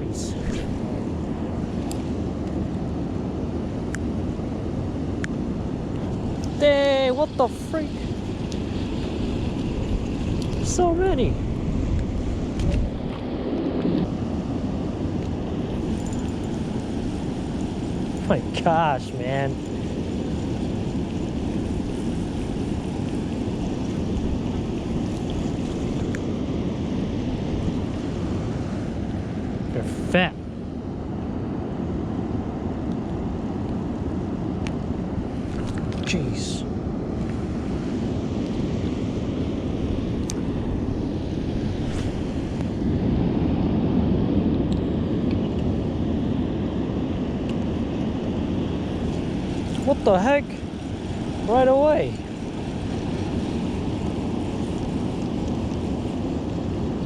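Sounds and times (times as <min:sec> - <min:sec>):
river water flowing: 0:00.0 - 0:13.2, 0:14.0 - 0:31.9, 0:33.2 - 0:43.6, 0:44.6 - 0:57.0
wind on microphone: 0:00.0 - 0:57.0.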